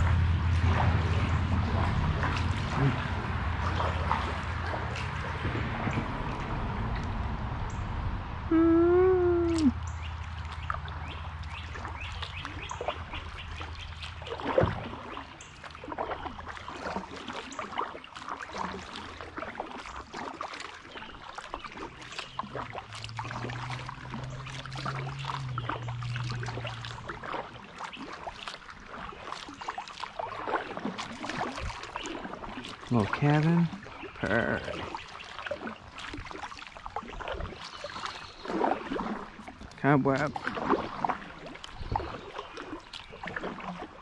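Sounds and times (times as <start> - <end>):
kayak paddle strokes: 0.0 - 7.2, 8.5 - 44.0
water dripping and trickling: 0.0 - 44.0.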